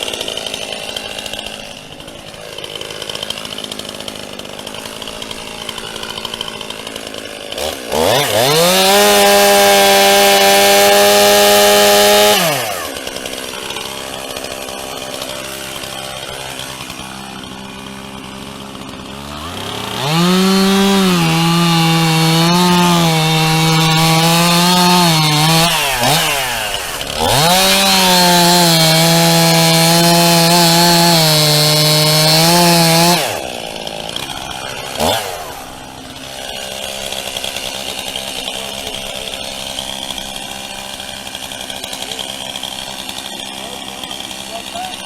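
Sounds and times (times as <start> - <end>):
chainsaw cutting log: 0.0 - 45.0.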